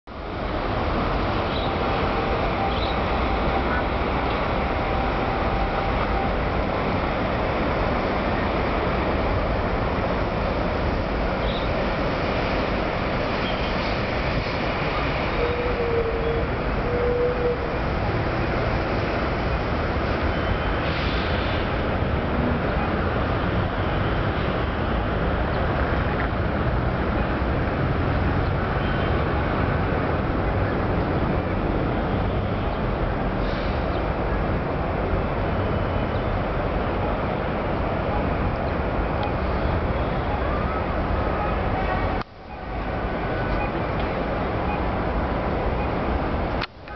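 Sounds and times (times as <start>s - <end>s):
road traffic passing: 0.1s - 46.9s.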